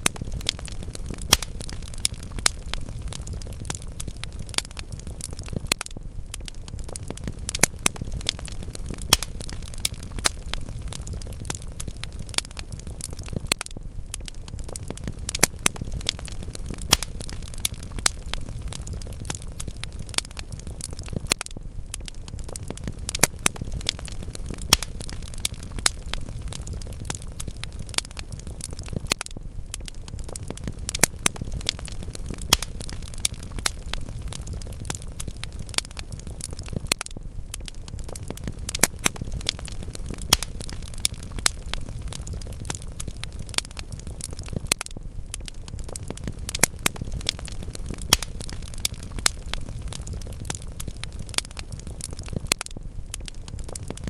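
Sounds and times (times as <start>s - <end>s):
burning logs popping: 0.0s - 54.0s
fire crackling: 0.0s - 54.0s
rush of flames: 0.0s - 54.0s.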